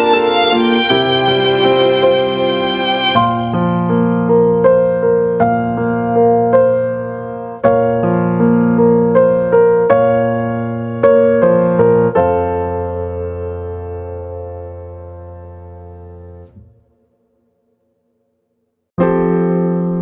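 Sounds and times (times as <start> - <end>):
slow solo piano melody: 0.0 - 17.0.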